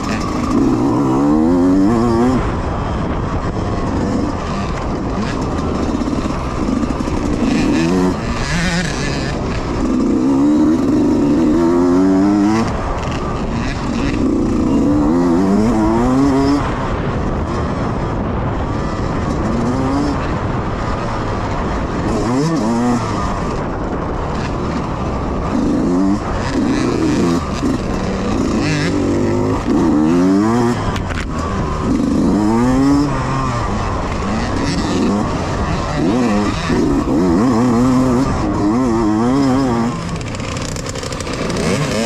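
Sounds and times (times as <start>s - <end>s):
din of bikes running: 0.0s - 42.0s
dirt bike engines revving: 0.0s - 42.0s.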